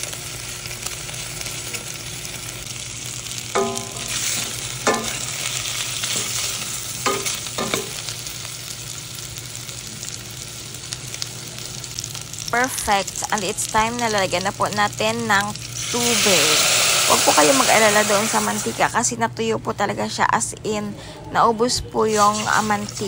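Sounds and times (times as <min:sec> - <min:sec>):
meat sizzling in a pot: 0:00.0 - 0:19.0, 0:22.1 - 0:23.0.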